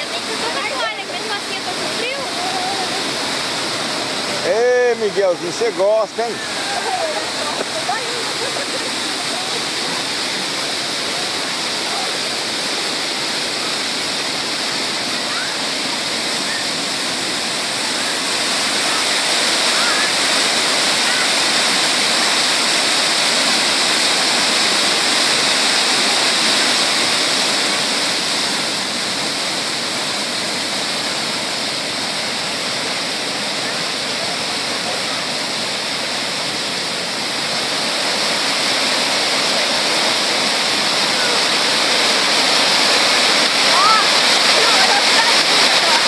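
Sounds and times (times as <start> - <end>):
waterfall splashing over rocks: 0.0 - 46.0.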